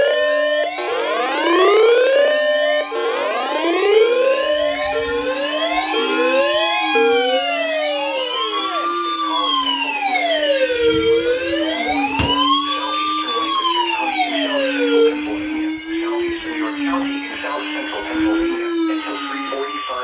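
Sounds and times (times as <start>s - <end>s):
siren wailing: 0.0s - 20.0s.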